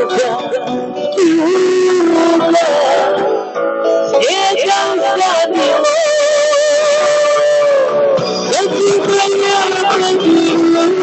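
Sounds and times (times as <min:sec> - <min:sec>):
person singing with vibrato: 0:00.0 - 0:11.0
plucked guitar: 0:00.0 - 0:11.0.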